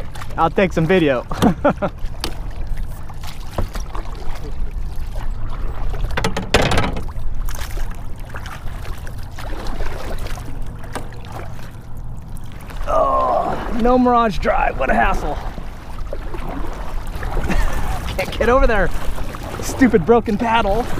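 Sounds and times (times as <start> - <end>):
paddle splashing: 0.0 - 20.9
steady low rumble: 0.0 - 20.9
water sloshing against hull: 0.0 - 20.9.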